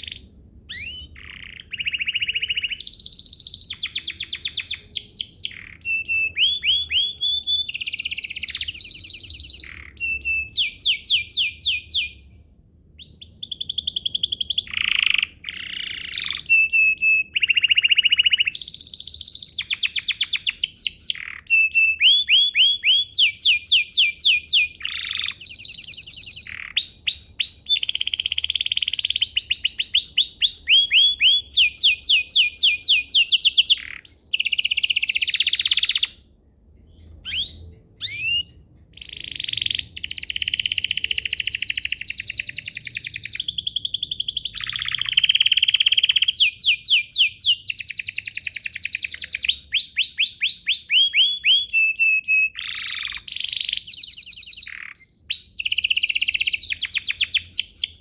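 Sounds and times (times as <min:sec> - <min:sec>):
canary singing trills: 0:00.0 - 0:12.4, 0:13.0 - 0:36.3, 0:37.0 - 0:58.0.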